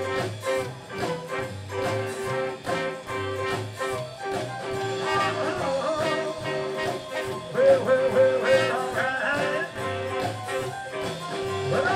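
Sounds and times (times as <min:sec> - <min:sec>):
drums on a steady beat: 0:00.0 - 0:11.9.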